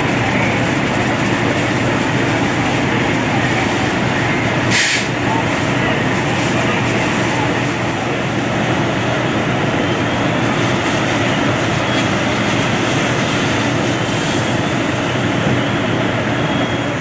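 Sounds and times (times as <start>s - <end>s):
fire engines droning: 0.0s - 17.0s.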